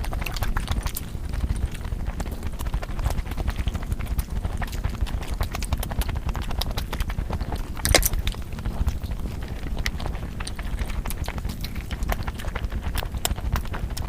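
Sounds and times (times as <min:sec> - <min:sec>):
chewing and crunching: 0:00.0 - 0:14.0.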